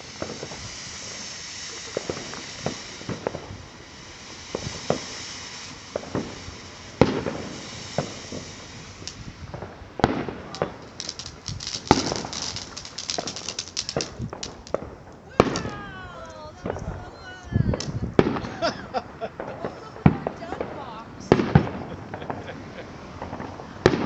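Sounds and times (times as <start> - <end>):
sharp firework bangs: 0.0 - 16.0, 17.7 - 24.0
rapid firework crackling: 0.0 - 17.1, 17.7 - 24.0
fireworks hissing: 0.0 - 24.0
fireworks popping: 0.0 - 24.0.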